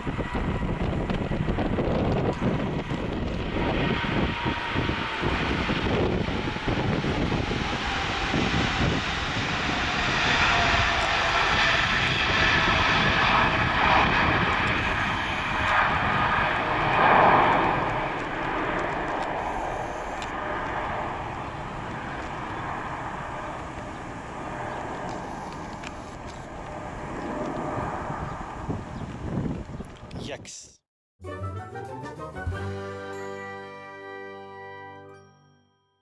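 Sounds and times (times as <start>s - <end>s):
jet engines at takeoff: 0.0s - 30.2s.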